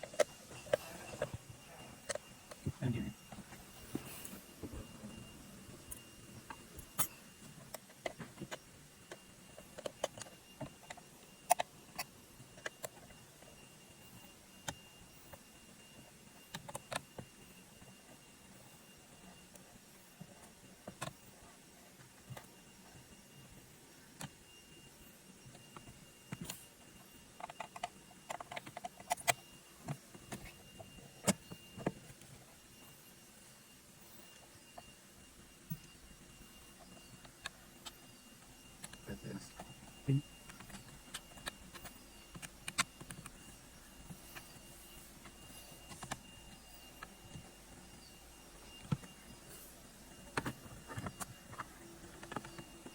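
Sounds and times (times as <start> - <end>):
small parts clicking and tapping: 0.0 - 32.9, 34.0 - 52.9.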